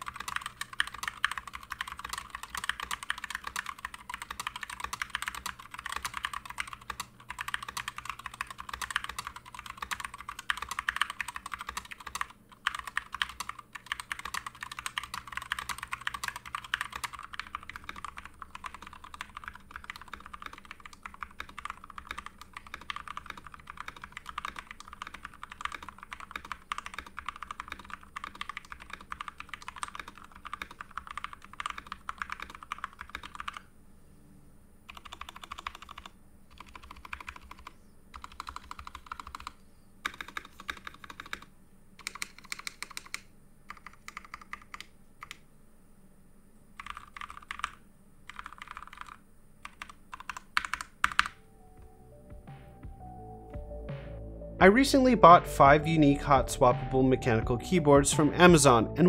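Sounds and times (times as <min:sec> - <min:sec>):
mechanical keyboard typing: 0:00.0 - 0:33.7, 0:34.9 - 0:45.4, 0:46.8 - 0:51.4.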